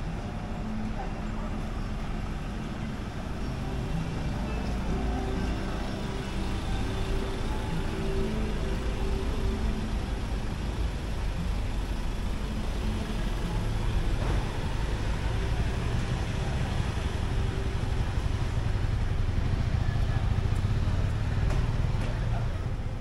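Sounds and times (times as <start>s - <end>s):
low engine rumble: 0.0s - 23.0s
motor vehicles passing: 0.0s - 23.0s.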